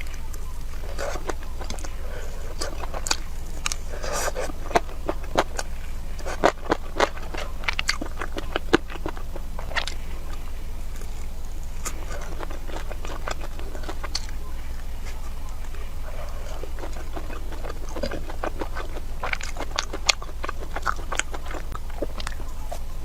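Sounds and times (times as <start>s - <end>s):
crisp crunches: 0.0s - 22.9s
chewing and biting food: 0.0s - 23.0s
low hum: 0.0s - 23.0s.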